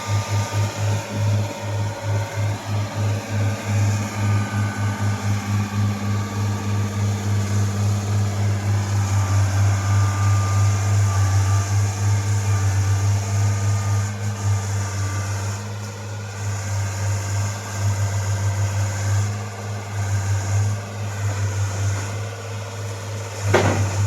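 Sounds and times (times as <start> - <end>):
heavy engine humming: 0.0 - 24.0.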